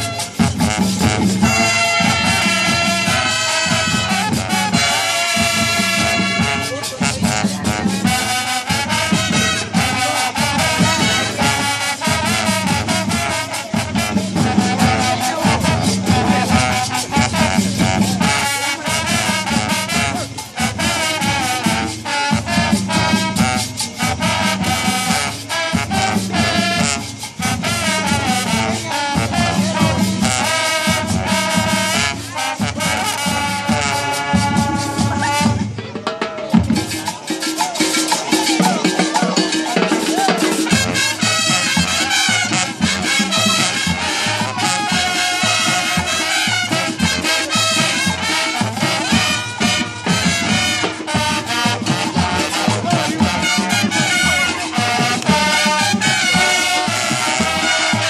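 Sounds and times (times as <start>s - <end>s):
brass horns and sousaphone: 0.0s - 58.0s
driving drum beat: 0.0s - 58.0s.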